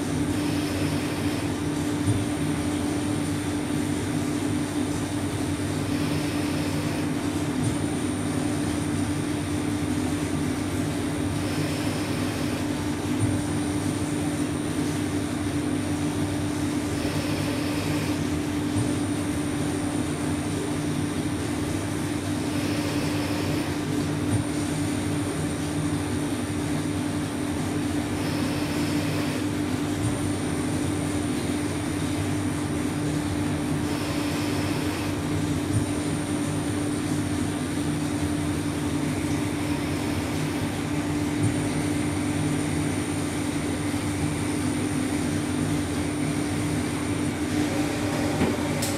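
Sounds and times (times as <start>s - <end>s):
lathe humming and whining: 0.0s - 48.9s.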